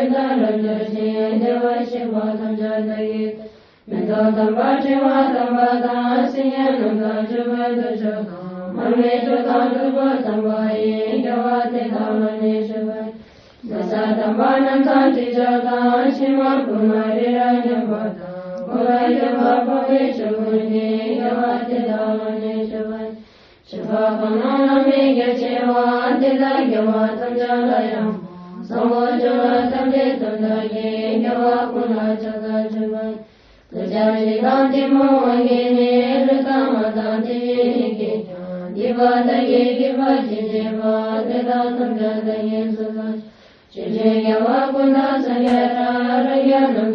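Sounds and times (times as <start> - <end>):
mantra chanting: 0.0 - 46.9.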